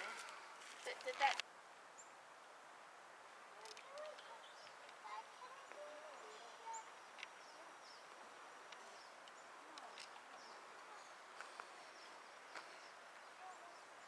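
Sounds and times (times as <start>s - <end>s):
faint woodland ambience: 0.0s - 14.0s.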